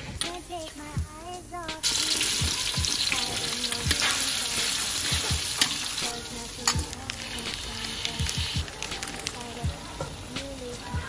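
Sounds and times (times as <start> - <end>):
onion and garlic sizzling in oil: 1.8 - 11.0.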